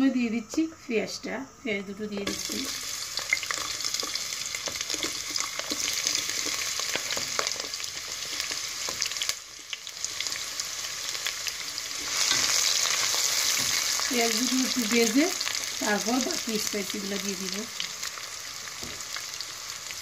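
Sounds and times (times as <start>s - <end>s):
onions sizzling in hot oil: 2.2s - 20.0s.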